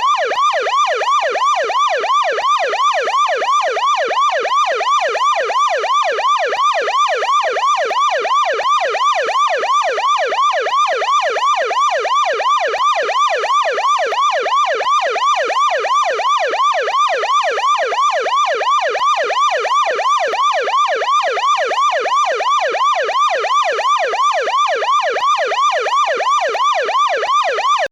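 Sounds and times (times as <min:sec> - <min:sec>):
police siren yelping: 0:00.0 - 0:27.9.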